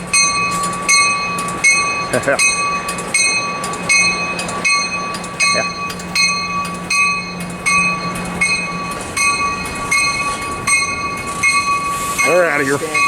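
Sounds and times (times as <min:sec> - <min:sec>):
commuter train departing: 0:00.0 - 0:13.0
warning bell ringing: 0:00.0 - 0:13.0.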